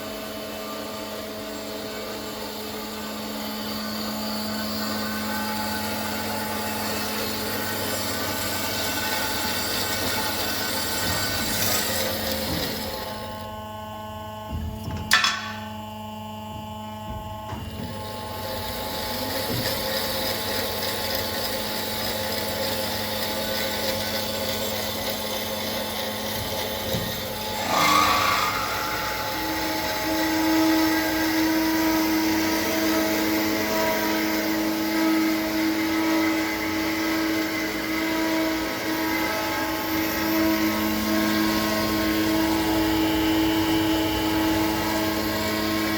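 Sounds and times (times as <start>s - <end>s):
metal-cutting band saw running: 0.1s - 13.5s, 17.9s - 45.9s.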